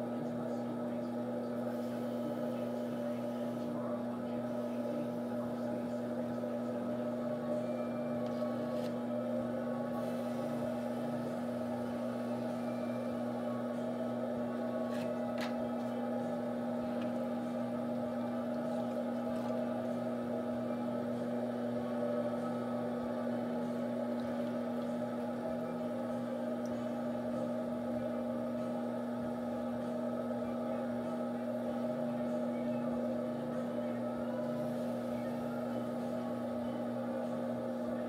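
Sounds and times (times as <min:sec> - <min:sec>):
potter's wheel motor humming: 0:00.0 - 0:38.0.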